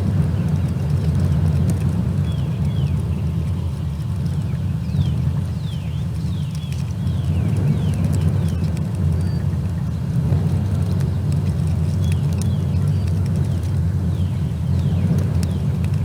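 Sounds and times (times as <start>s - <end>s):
low outdoor rumble: 0.0s - 16.0s
small birds chirping: 0.1s - 16.0s.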